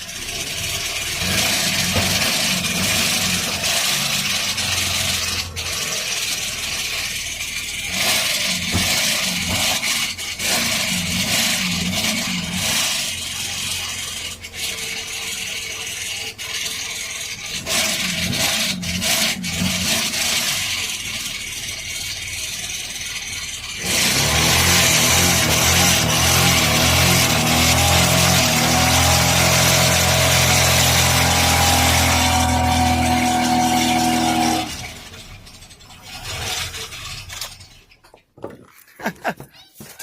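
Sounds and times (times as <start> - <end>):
rubbing and scraping: 0.2 - 40.0.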